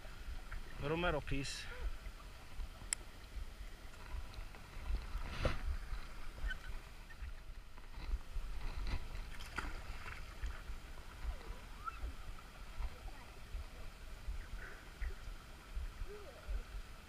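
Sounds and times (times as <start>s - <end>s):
river water sloshing around wading: 0.0s - 17.0s.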